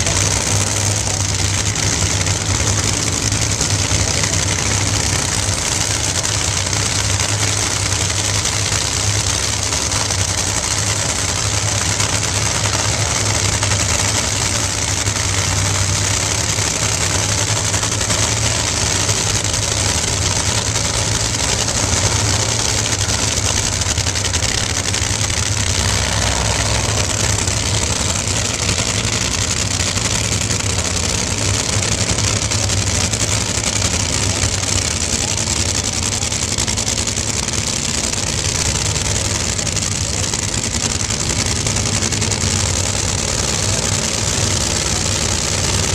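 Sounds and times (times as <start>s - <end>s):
race car engines idling roughly: 0.0s - 45.9s.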